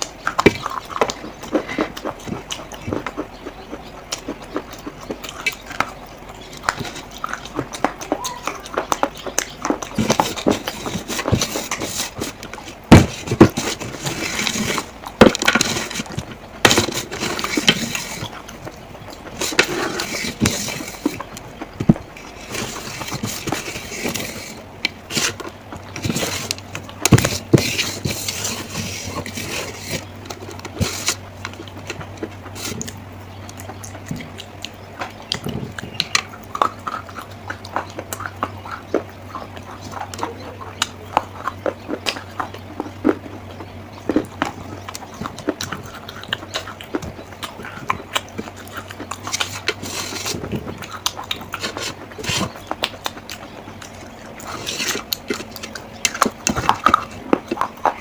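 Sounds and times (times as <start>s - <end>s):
dry clay crunching and cracking: 0.0s - 58.0s
low steady hum: 0.0s - 58.0s.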